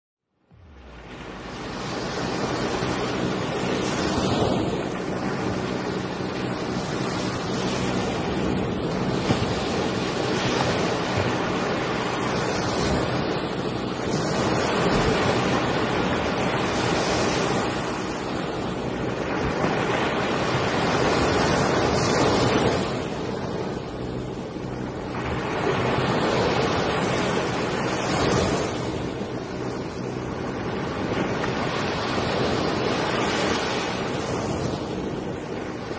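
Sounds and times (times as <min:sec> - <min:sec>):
wind buffeting microphone: 0:00.5 - 0:35.9.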